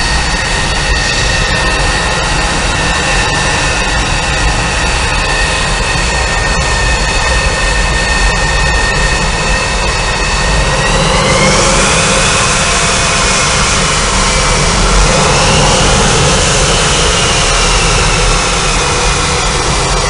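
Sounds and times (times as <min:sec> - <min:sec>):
jet engines roaring and whining: 0:00.0 - 0:20.0.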